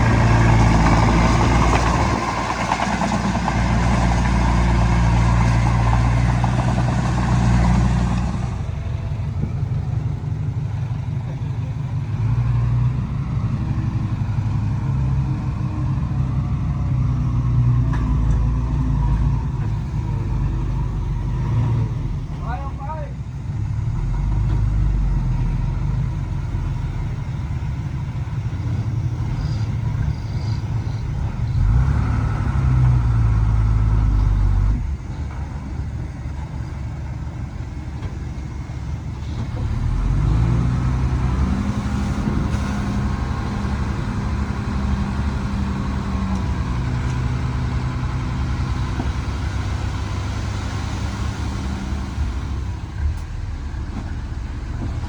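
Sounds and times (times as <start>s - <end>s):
heavy diesel engine revving: 0.0s - 55.0s.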